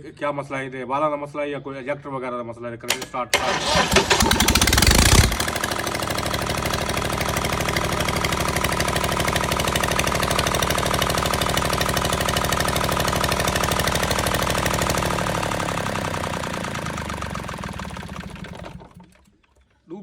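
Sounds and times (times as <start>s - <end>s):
generator engine running: 2.9s - 19.6s.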